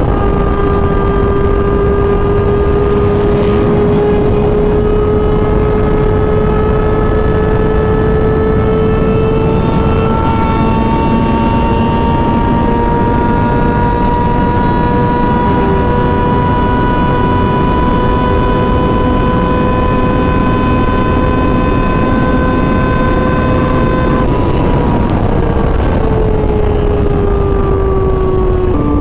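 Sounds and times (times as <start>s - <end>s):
motorcycle engine at high revs: 0.0s - 29.0s
wind noise: 0.0s - 29.0s.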